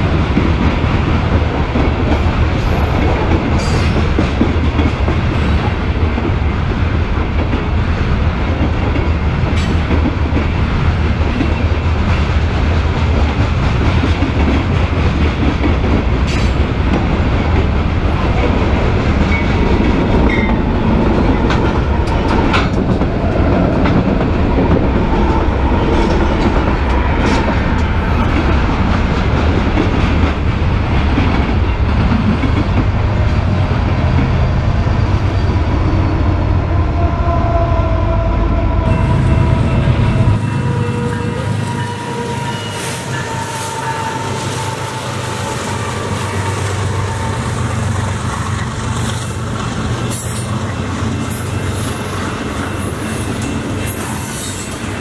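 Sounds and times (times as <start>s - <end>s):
train clicks and clanks: 0.0s - 36.1s, 39.9s - 55.0s
freight train wheels rumbling on rail: 0.0s - 55.0s.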